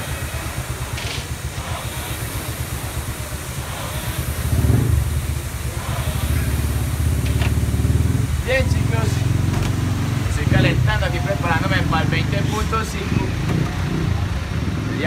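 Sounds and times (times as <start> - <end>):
engine revving: 0.0 - 15.0
engines idling in traffic: 0.0 - 15.0.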